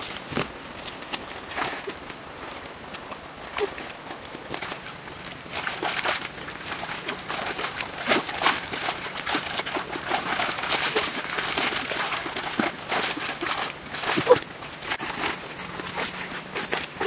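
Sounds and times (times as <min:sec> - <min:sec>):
rustling and crackling clicks: 0:00.0 - 0:17.0.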